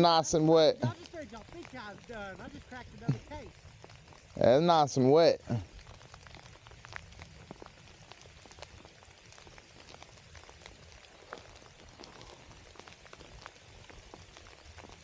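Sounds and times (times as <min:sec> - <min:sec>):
light rain falling: 0:00.0 - 0:15.0
raindrops clicking: 0:00.0 - 0:15.0.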